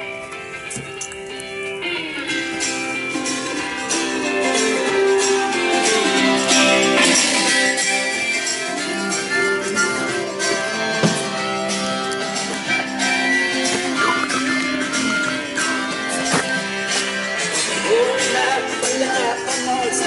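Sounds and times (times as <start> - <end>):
music with strummed guitar: 0.0 - 20.0.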